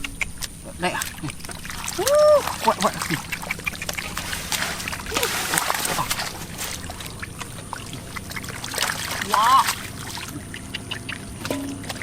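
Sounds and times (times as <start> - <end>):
splashing in shallow muddy water: 0.0 - 12.0.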